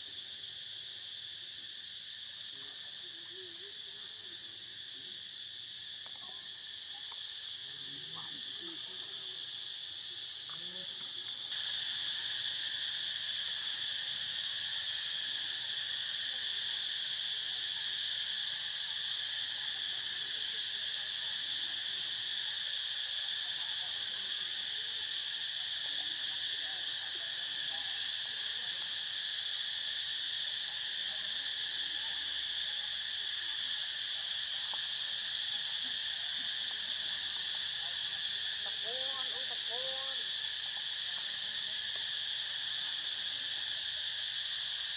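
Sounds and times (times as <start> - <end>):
insects shrilling: 0.0 - 44.9.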